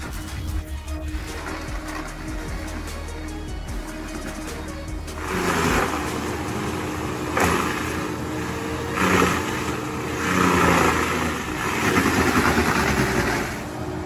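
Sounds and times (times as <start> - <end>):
diesel engine under load: 0.0 - 14.0
mulcher grinding tree trunk: 0.0 - 14.0.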